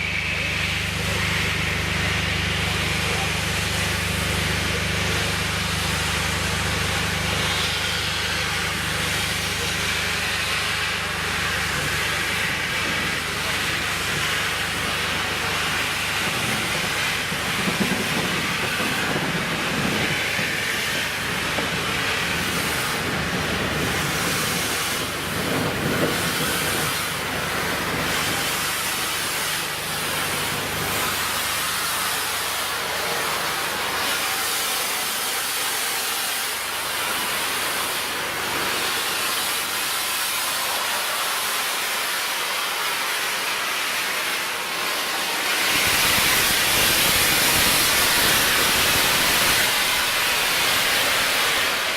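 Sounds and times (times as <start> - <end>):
steam hissing: 0.0 - 51.9.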